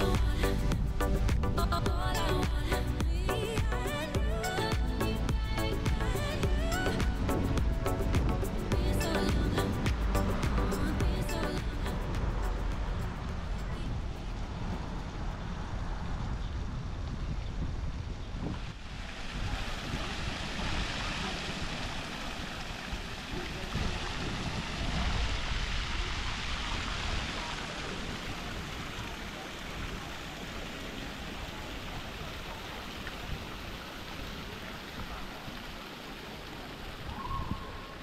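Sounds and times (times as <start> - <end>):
fountain water splashing: 0.0 - 38.0.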